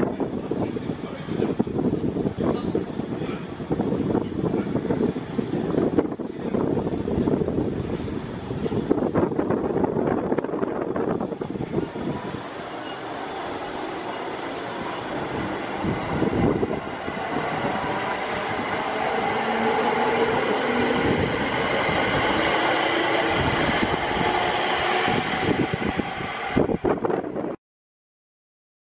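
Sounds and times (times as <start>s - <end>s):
electric train passing: 0.0s - 27.6s.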